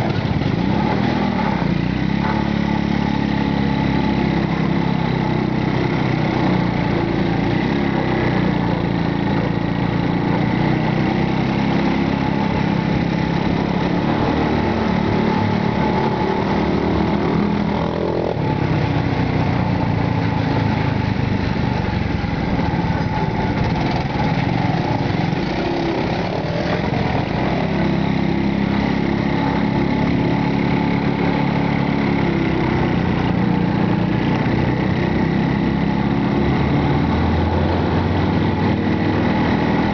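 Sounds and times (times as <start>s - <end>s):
small motorcycle engine running: 0.0s - 39.9s.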